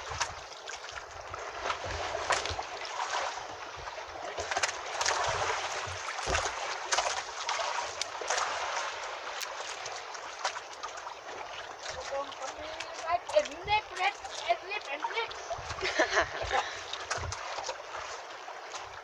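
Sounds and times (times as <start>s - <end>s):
water lapping against boat: 0.0s - 19.0s.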